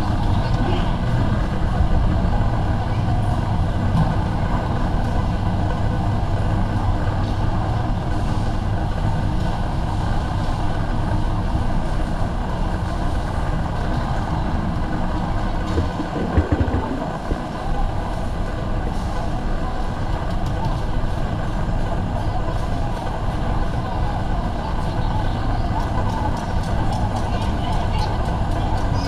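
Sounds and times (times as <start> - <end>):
constant low hum: 0.0 - 29.0
indistinct shoppers' noise: 0.0 - 29.0.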